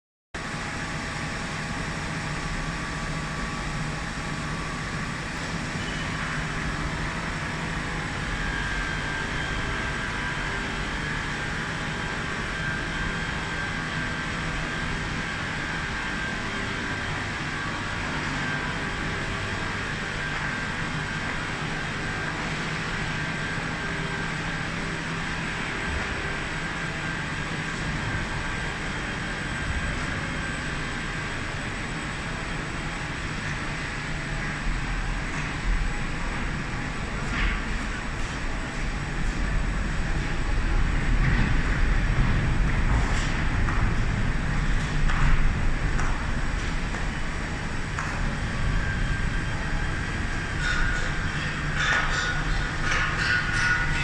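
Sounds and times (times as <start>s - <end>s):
thin high whine: 0.4s - 54.0s.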